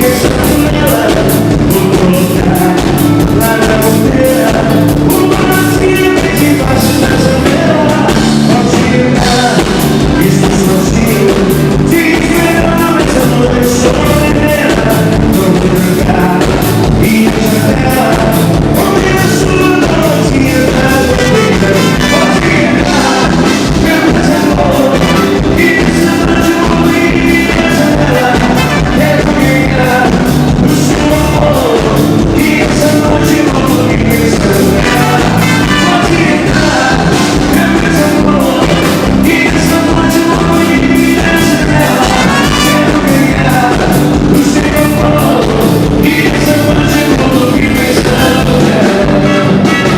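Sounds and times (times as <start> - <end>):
drum beat: 0.0 - 49.9
live band dance music: 0.0 - 49.9
person singing: 0.0 - 49.9.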